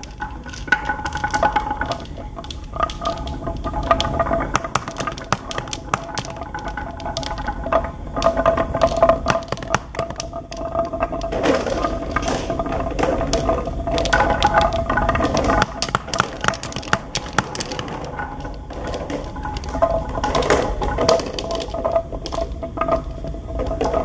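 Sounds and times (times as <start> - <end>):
marbles clacking on wood: 0.0 - 23.1
steady ringing hum: 0.0 - 24.0.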